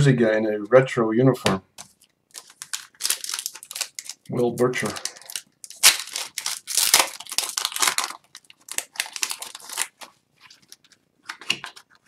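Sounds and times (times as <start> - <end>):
plastic wrapper tearing and crinkling: 1.9 - 12.0.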